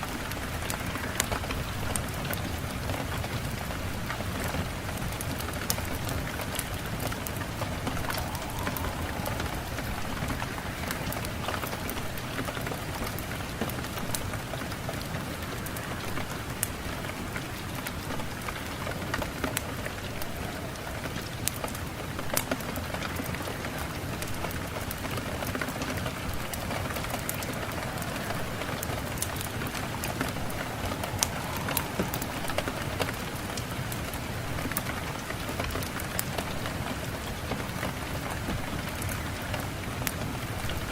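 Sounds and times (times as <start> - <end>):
rain drops on hard surface: 0.0 - 40.9.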